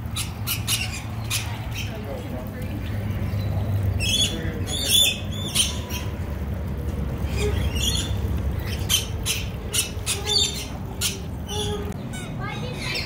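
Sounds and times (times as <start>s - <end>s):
lorikeets screeching: 0.0s - 2.2s, 3.3s - 6.2s, 7.2s - 13.0s.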